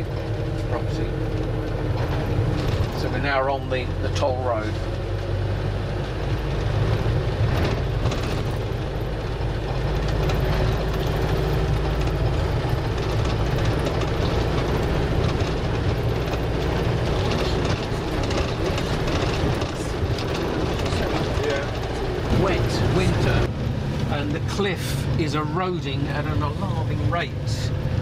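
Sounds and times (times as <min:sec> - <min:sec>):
road noise: 0:00.0 - 0:28.0
vehicle engine rumble: 0:00.0 - 0:28.0.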